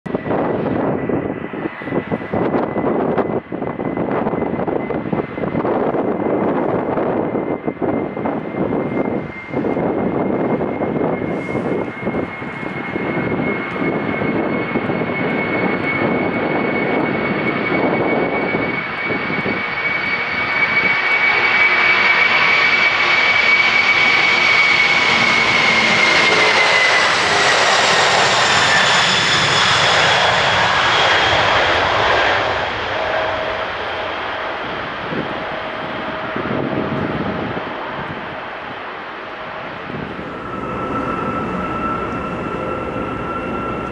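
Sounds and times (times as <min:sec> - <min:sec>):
jet engines at takeoff: 0:00.1 - 0:43.9.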